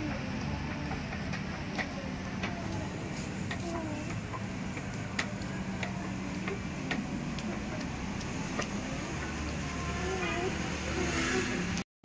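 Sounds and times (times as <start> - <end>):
footsteps clicking on tiles: 0.0 - 10.6
low street hum: 0.0 - 11.8.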